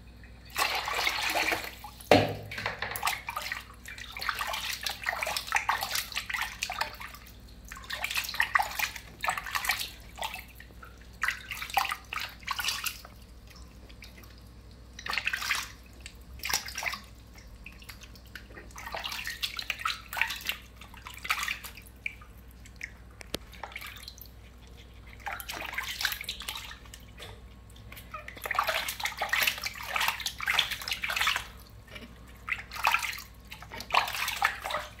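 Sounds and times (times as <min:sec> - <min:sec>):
water splashing in bathtub: 0:00.0 - 0:35.0.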